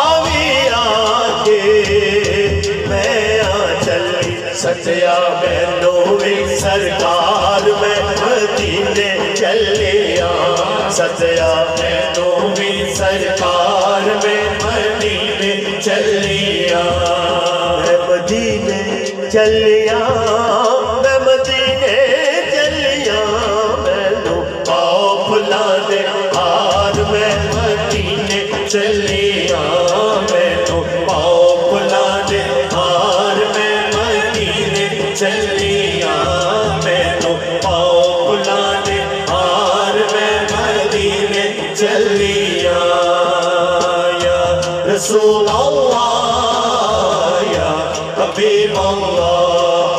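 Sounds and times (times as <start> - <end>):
drum beat: 0.0 - 49.9
man singing through loudspeaker: 0.0 - 49.9.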